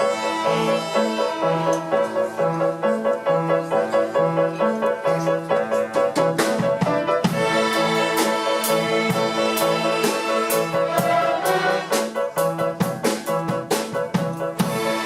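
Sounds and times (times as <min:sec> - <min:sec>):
string ensemble playing: 0:00.0 - 0:12.7
piano accompaniment: 0:00.0 - 0:15.0.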